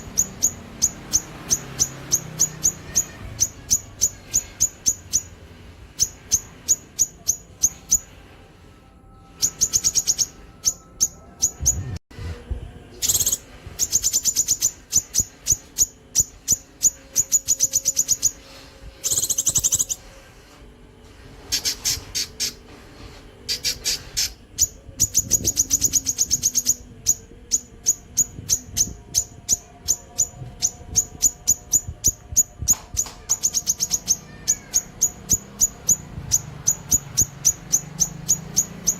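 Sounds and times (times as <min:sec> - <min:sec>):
bird singing high trills: 0:00.0 - 0:08.2, 0:08.8 - 0:12.0, 0:12.9 - 0:20.4, 0:21.4 - 0:22.7, 0:23.4 - 0:38.9.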